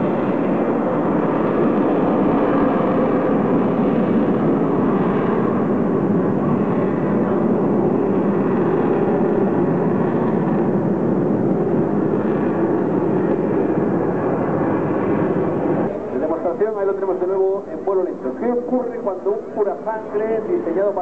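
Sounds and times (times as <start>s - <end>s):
loud jet noise: 0.0s - 21.0s.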